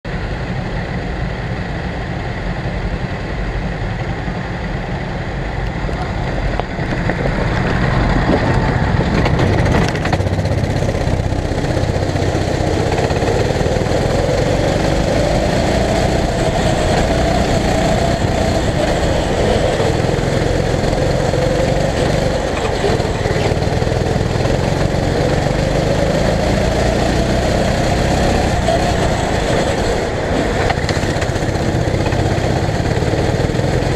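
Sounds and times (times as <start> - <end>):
go-kart engine revving: 6.4 - 33.9.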